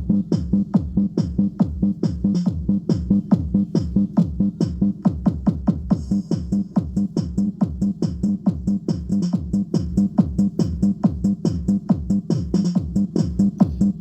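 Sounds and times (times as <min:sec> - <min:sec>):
electronic dance music: 0:00.0 - 0:14.0.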